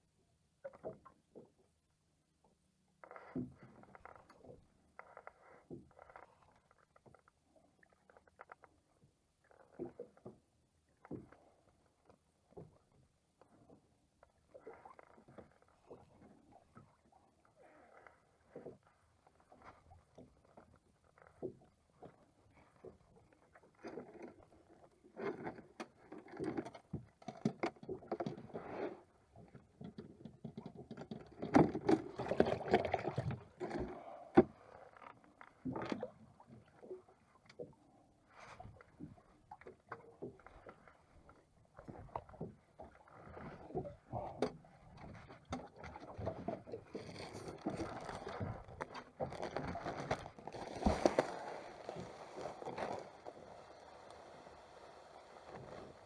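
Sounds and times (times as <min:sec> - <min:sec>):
knocks and scrapes aboard a boat: 0:00.5 - 0:56.0.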